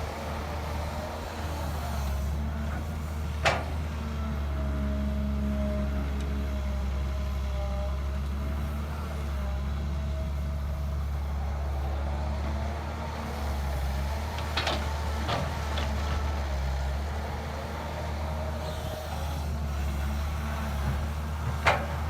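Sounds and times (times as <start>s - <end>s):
excavator diesel engine droning: 0.0s - 22.0s.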